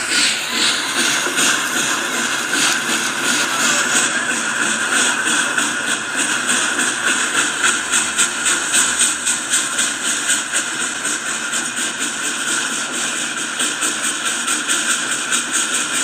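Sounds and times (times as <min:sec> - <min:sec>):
model train motor whine: 0:00.0 - 0:16.0
wheels clicking on rails: 0:00.0 - 0:16.0.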